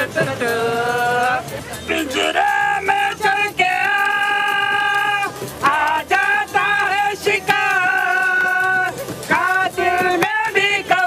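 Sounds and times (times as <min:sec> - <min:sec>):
women singing: 0:00.0 - 0:11.0.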